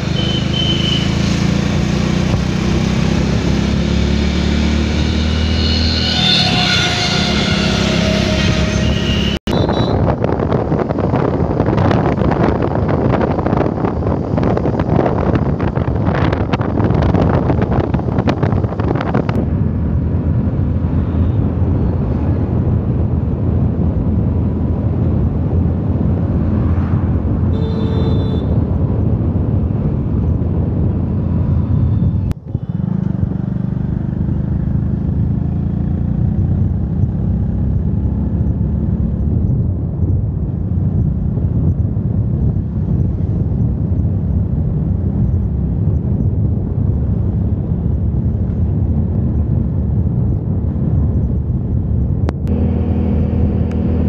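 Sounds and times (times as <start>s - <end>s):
motorbike engine and road noise: 0.0s - 54.0s
wind buffeting microphone: 9.5s - 54.0s.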